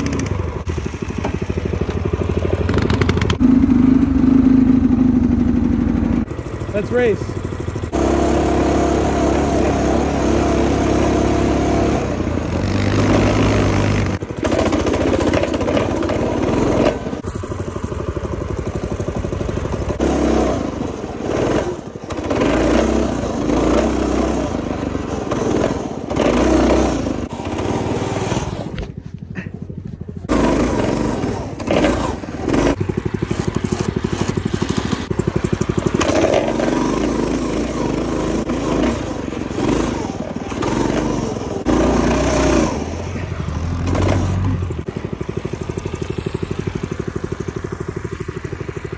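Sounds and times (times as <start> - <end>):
small engine revving: 0.0 - 48.9.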